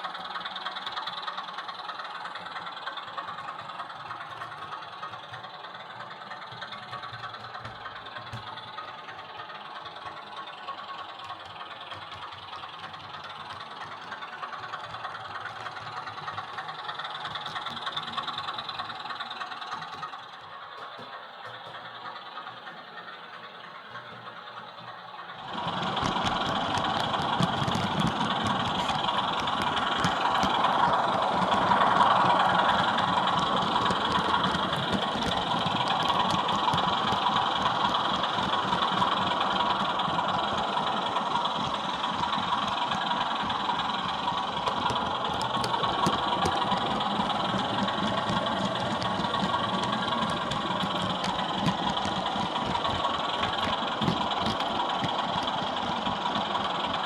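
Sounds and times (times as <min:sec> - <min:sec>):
model diesel engine sound from speaker: 0:00.0 - 0:57.0.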